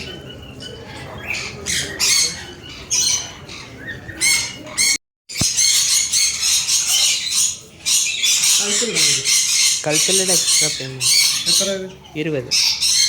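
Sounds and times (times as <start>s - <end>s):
birds squawking: 0.0s - 13.0s.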